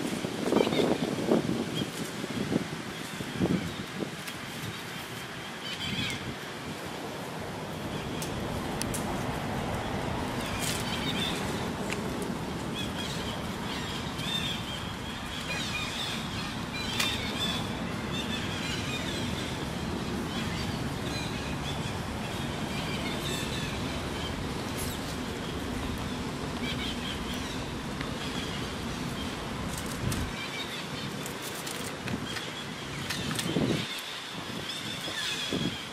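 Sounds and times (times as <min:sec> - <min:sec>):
outdoor background noise: 0:00.0 - 0:35.9.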